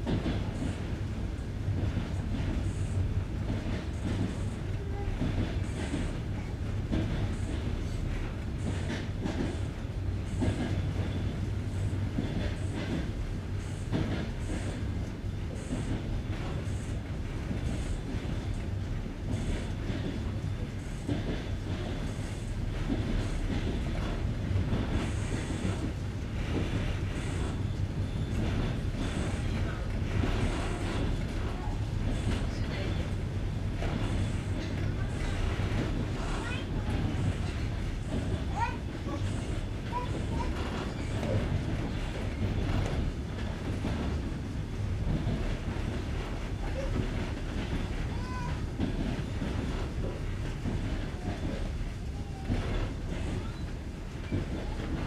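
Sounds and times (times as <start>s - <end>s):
train wheels clattering on rail joints: 0.0s - 55.0s.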